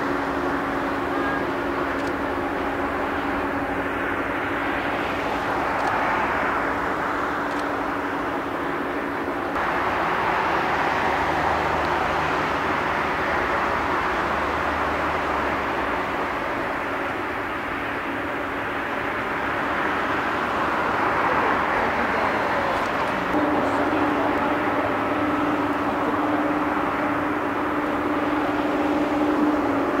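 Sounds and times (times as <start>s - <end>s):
jet engines taxiing: 0.0s - 30.0s.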